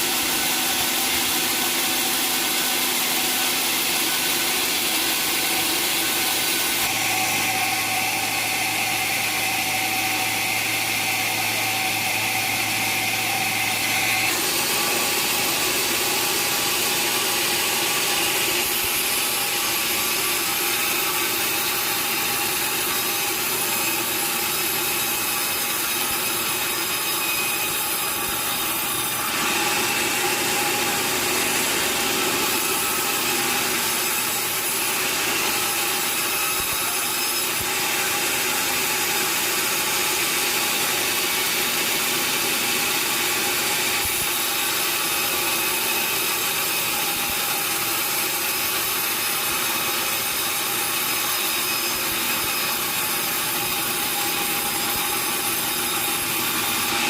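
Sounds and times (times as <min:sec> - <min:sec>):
saw cutting through timber: 0:00.0 - 0:57.0.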